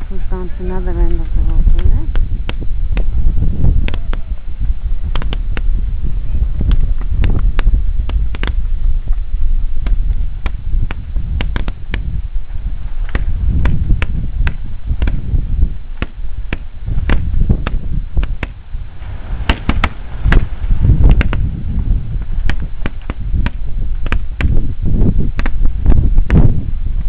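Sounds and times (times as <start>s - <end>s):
wind buffeting microphone: 0.0s - 27.0s
lava cracking and popping: 1.0s - 27.0s.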